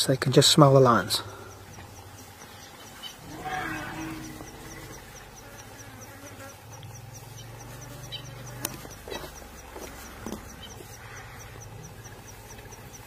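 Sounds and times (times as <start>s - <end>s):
faint high ticking: 0.0s - 13.0s
insect buzzing: 0.9s - 13.0s.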